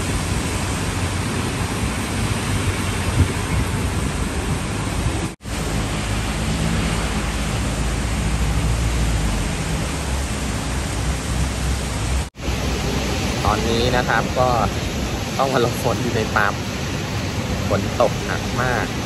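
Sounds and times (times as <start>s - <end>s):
heavy rain on wet pavement: 0.0s - 19.0s.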